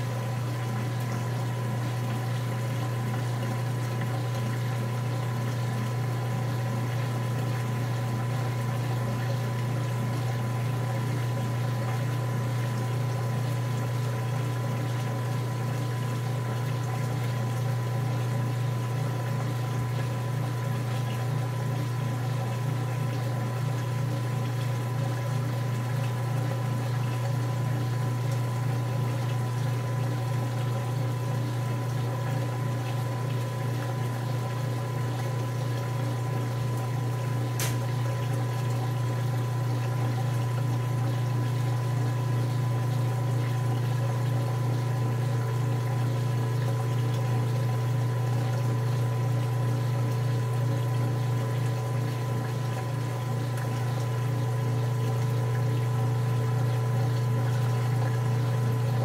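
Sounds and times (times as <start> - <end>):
low electrical hum: 0.0 - 59.0
water running into washing machine: 0.0 - 59.0.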